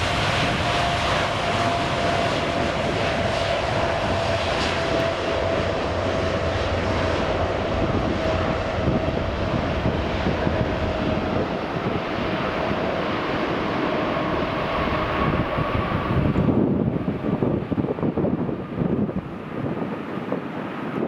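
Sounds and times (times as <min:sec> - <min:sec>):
higher engine whine: 0:00.0 - 0:21.0
jet engines rushing and whining: 0:00.0 - 0:21.0.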